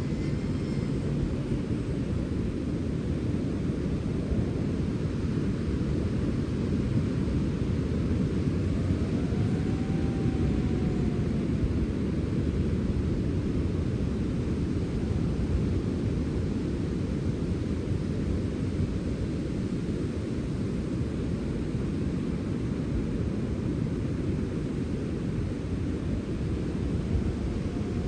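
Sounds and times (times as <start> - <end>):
sea wind rushing: 0.0 - 28.0.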